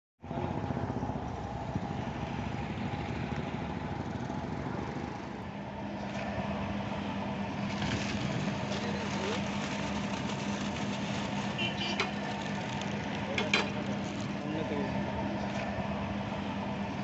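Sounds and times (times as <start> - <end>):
low hum: 0.2 - 17.0
vehicle engines running: 0.2 - 17.0.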